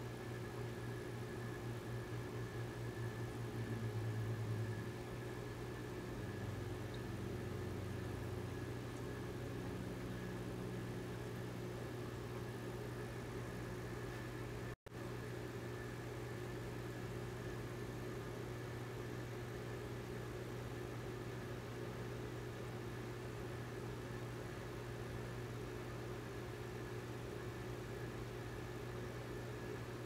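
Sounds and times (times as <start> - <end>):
aquarium air pump hum: 0.0 - 30.0.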